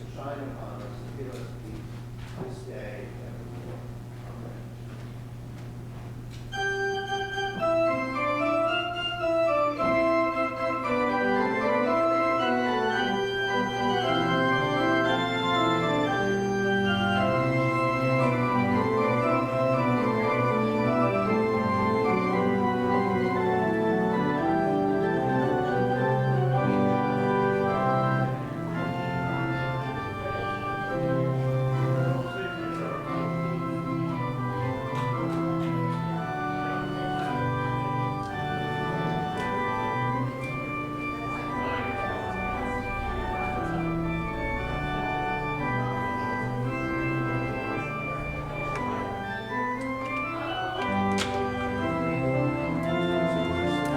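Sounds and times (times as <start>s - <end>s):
church organ playing: 0.0s - 53.9s.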